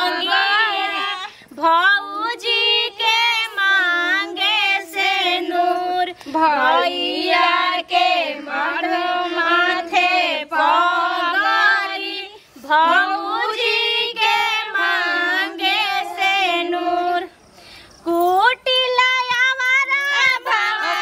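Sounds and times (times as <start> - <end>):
women singing together: 0.0 - 17.4, 18.0 - 21.0.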